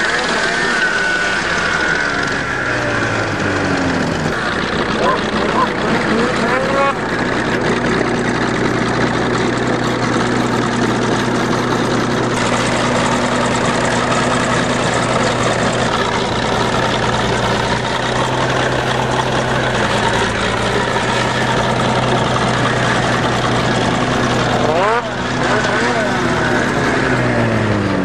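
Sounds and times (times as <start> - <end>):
vehicle engine running steadily: 0.0 - 28.0.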